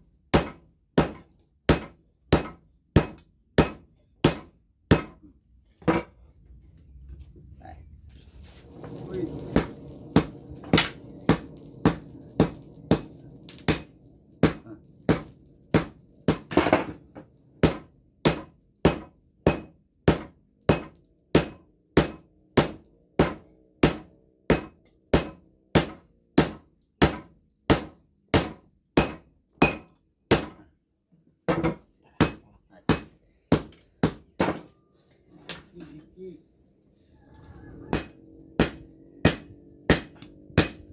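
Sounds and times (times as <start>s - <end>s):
hammer striking hot steel on anvil: 0.0s - 5.3s, 8.9s - 17.0s, 17.6s - 30.7s, 31.5s - 34.8s, 37.9s - 40.9s.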